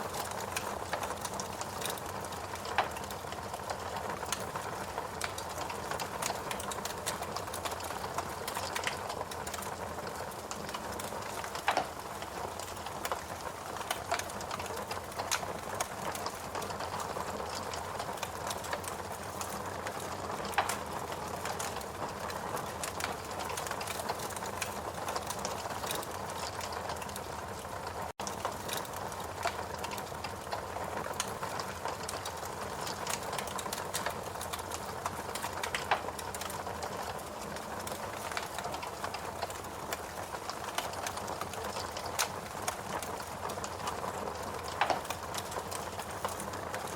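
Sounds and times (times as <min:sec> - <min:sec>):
fireplace crackling and popping: 0:00.0 - 0:46.9.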